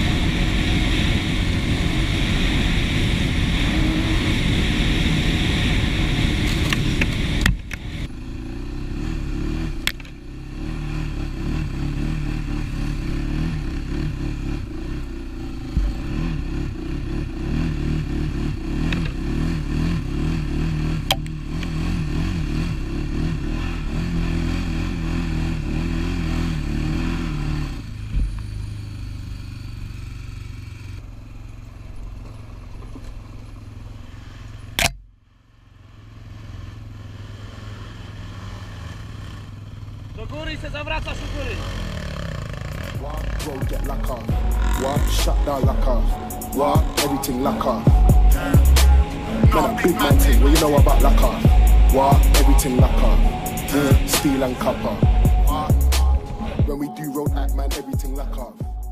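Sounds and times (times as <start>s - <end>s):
atv engine revving and idling: 0.0s - 58.9s.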